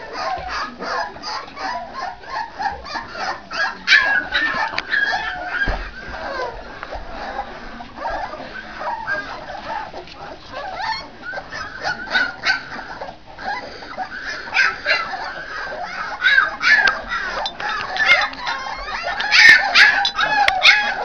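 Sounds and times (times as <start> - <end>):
puppies yipping and whimpering: 0.0 - 21.0.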